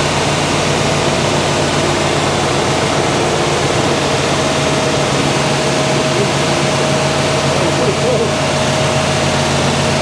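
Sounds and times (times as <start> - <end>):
car engine running loudly: 0.0 - 10.0.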